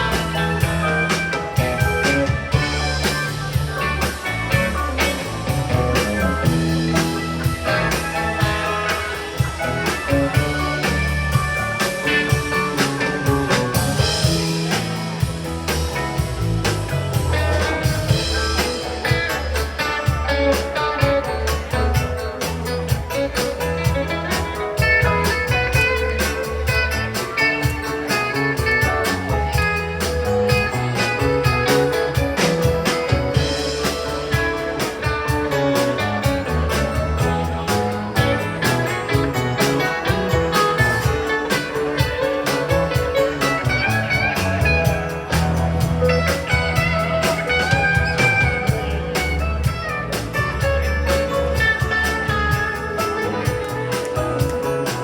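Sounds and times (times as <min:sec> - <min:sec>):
bass line: 0:00.0 - 0:55.0
drum kit steady beat: 0:00.0 - 0:55.0
electric guitar: 0:00.0 - 0:55.0.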